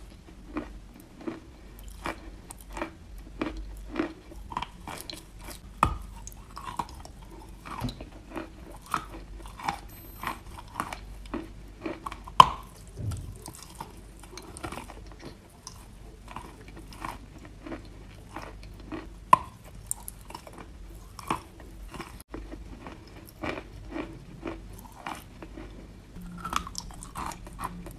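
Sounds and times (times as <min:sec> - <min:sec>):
chewing crunches: 0:00.0 - 0:27.9.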